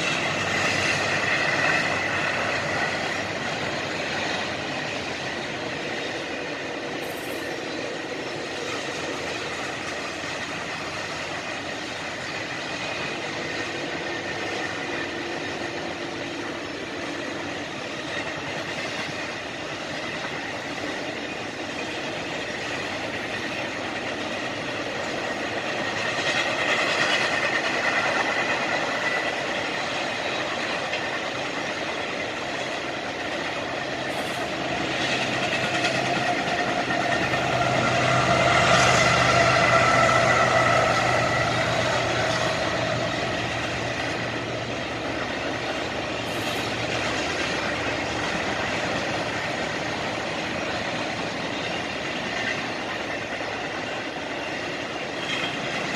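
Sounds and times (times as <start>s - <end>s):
freight train wheels clattering: 0.0s - 55.9s.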